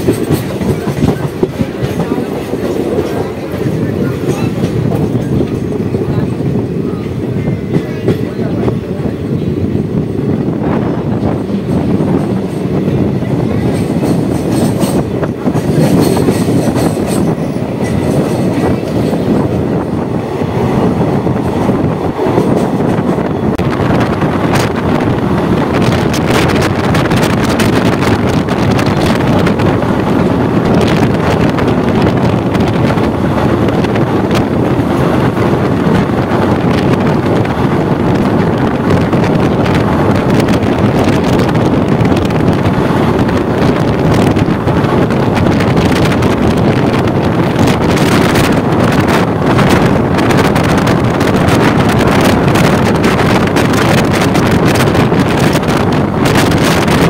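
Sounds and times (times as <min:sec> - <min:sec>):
rumble of wheels on track: 0:00.0 - 0:57.0.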